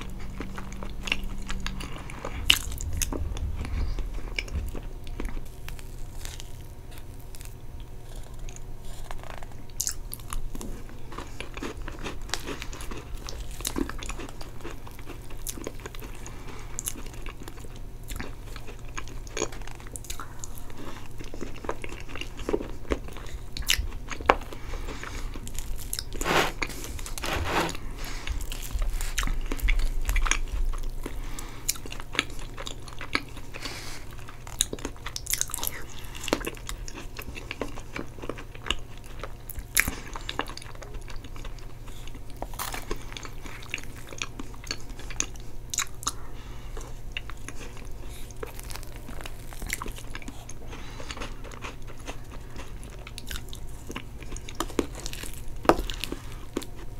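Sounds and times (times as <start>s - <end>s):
chewing and wet mouth sounds: 0.0s - 56.9s.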